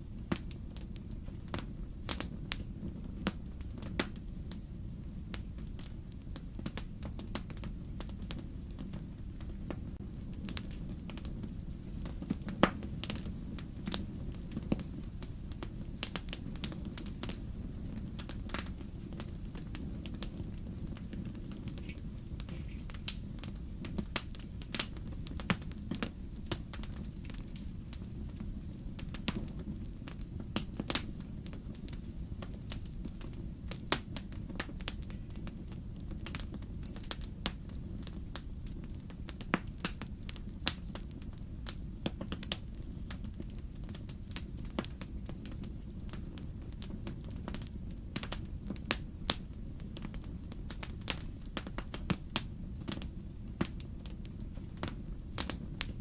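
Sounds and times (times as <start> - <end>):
burning logs popping: 0.0 - 56.0
fire crackling: 0.0 - 56.0
wood fire rumbling: 0.0 - 56.0.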